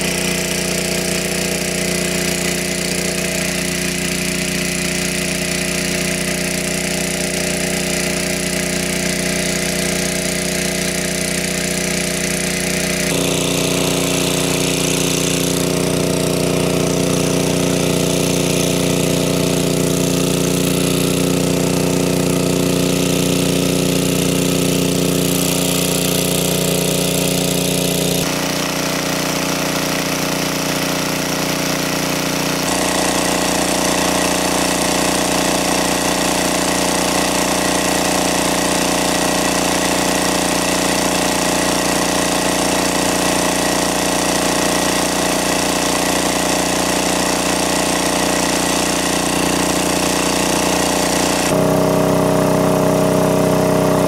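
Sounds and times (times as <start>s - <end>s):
petrol engine water pump running: 0.0s - 54.0s
water gushing and splashing: 0.0s - 54.0s.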